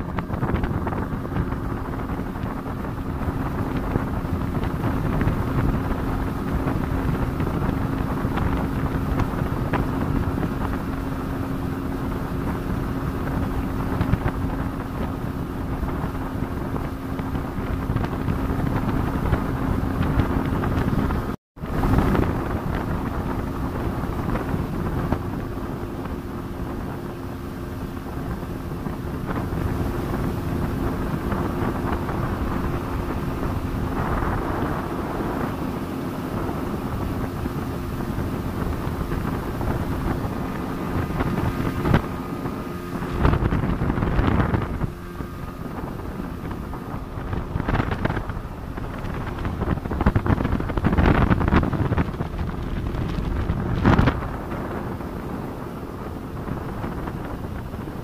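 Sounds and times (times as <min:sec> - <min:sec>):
speedboat engine running: 0:00.0 - 0:58.0
wind buffeting microphone: 0:00.0 - 0:58.0.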